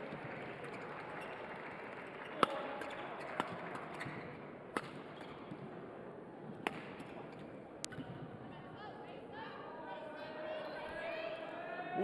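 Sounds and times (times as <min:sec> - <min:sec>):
background hall noise: 0:00.0 - 0:12.0.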